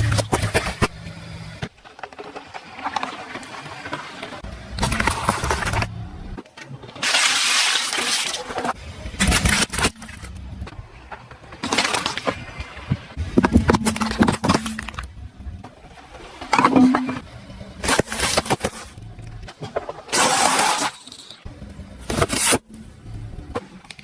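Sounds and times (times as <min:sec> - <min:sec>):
tyres crushing crunchy objects: 0:04.4 - 0:23.7.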